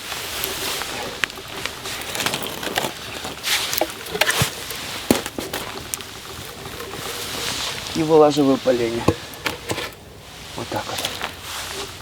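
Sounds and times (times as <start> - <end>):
firewood rustling and scraping: 0.0 - 12.0.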